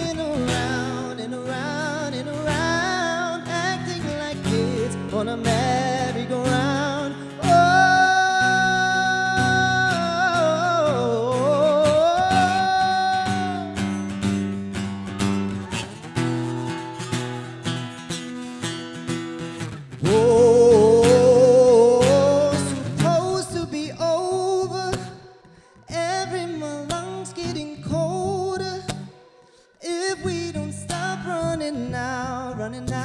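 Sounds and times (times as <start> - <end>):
person singing with vibrato: 0.0 - 18.7, 20.0 - 33.0
guitar accompaniment: 0.0 - 33.0.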